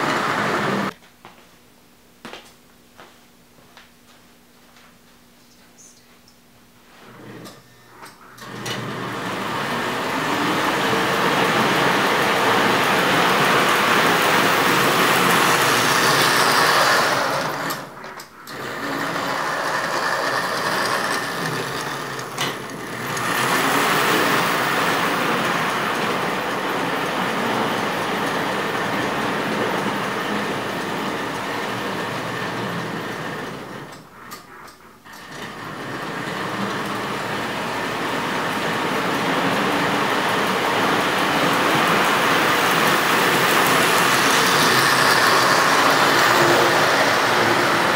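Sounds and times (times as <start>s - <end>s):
model train motor whirring: 8.4s - 34.5s, 35.1s - 47.9s.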